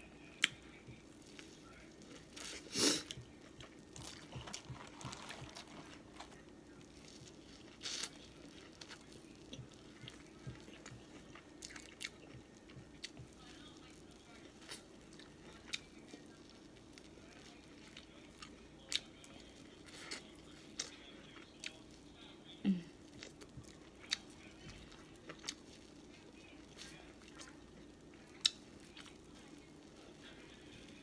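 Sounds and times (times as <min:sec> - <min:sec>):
chewing and mouth smacks: 0:00.4 - 0:22.1, 0:23.1 - 0:30.2.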